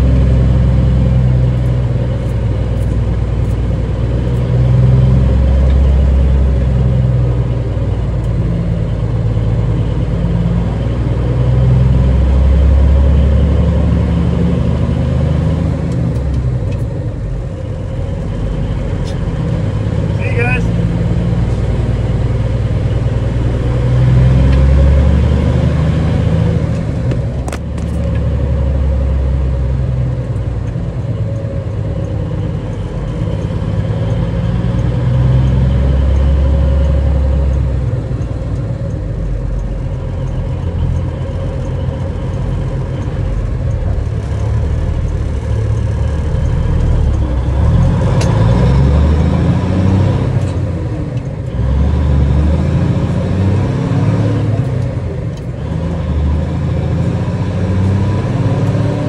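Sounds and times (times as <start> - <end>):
diesel engine driving: 0.0 - 59.0.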